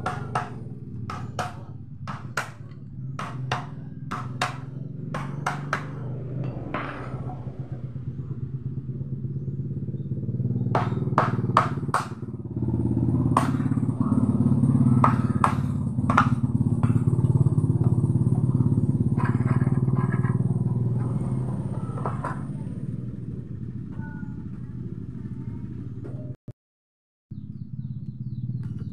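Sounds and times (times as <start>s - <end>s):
low engine drone: 0.0s - 26.4s.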